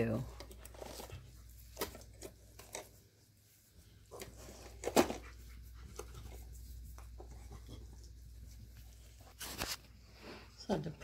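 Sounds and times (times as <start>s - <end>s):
dogs sniffing and panting: 0.0s - 9.4s.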